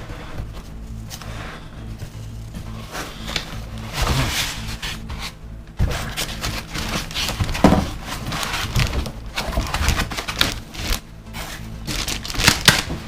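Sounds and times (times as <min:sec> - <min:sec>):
packaging rustling and scraping: 0:00.0 - 0:13.0.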